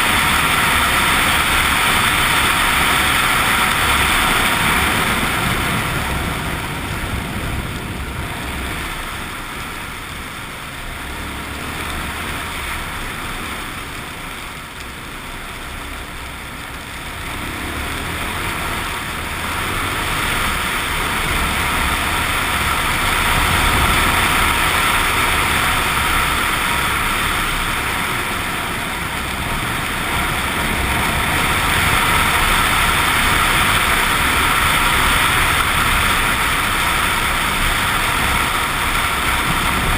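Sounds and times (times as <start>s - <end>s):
rushing wind noise: 0.0s - 14.7s, 16.1s - 39.9s
motorcycle engine running: 0.0s - 39.9s.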